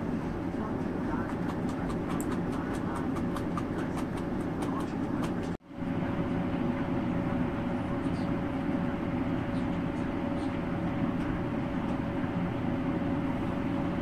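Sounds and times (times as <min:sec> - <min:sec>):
machine hum with steady tone: 0:00.0 - 0:14.0.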